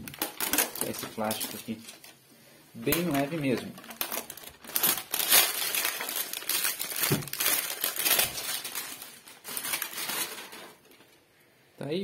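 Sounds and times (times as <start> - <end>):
plastic bag crinkling: 0.0 - 2.2, 2.8 - 11.2.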